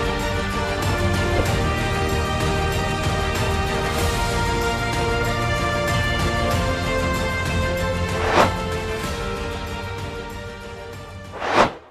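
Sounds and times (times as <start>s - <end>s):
background music: 0.0s - 11.9s.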